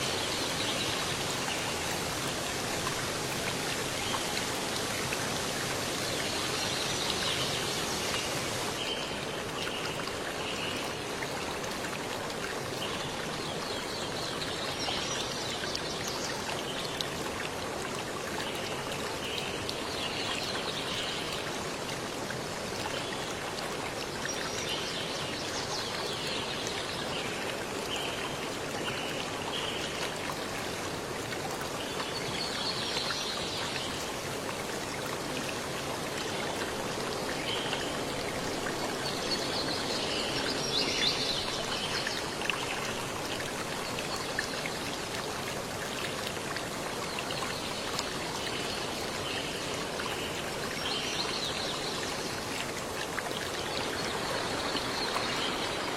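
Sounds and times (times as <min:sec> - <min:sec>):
stream rushing and trickling: 0:00.0 - 0:55.9.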